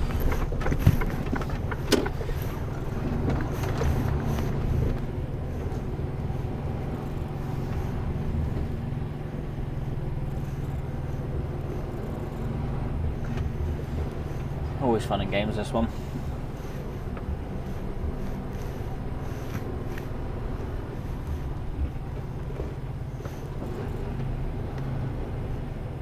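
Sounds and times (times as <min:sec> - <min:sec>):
diesel lorry engine running: 0:00.0 - 0:26.0.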